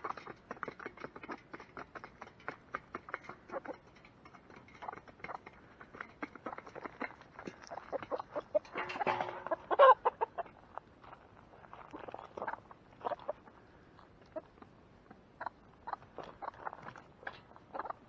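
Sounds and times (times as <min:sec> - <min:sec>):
chickens clucking: 0:00.0 - 0:11.2, 0:11.8 - 0:18.0.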